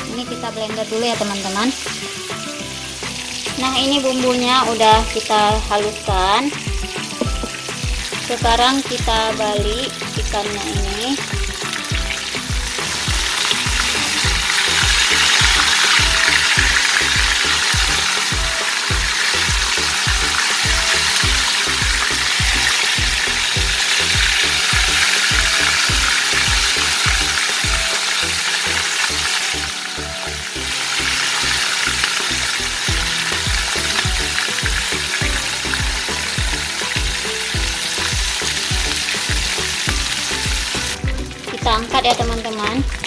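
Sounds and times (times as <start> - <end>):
fish frying in hot oil: 0.0 - 43.0
background music with low beat: 0.1 - 43.0.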